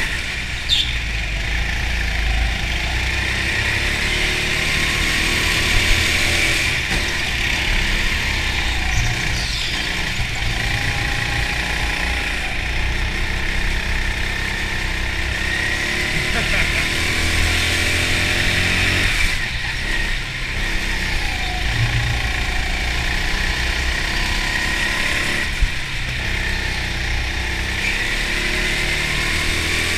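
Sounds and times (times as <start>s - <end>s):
go-kart engine running: 0.0s - 29.9s.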